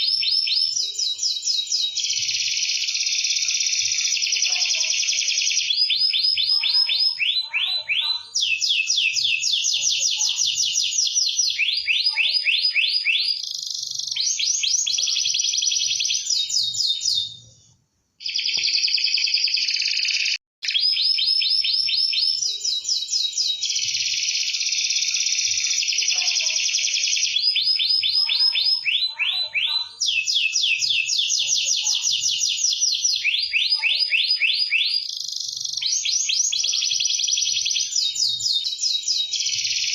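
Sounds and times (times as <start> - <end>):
canary singing trills: 0.0 - 17.6, 18.2 - 39.9.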